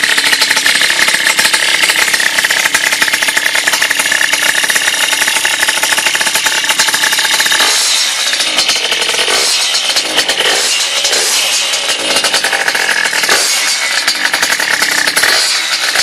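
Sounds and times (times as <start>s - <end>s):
two-stroke engine running: 0.0s - 16.0s.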